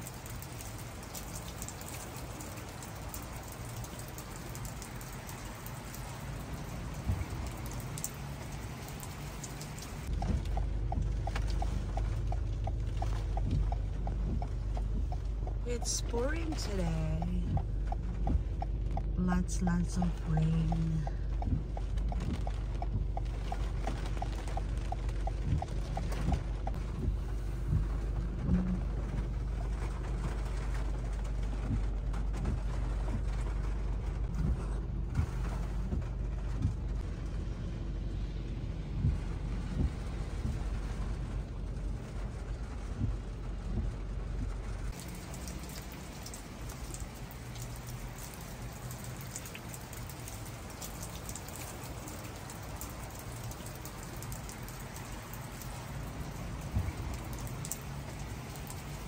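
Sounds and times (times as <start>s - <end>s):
car rumble: 0.0s - 59.0s
rain falling outdoors: 0.0s - 59.0s
rain pattering on a car: 0.0s - 59.0s.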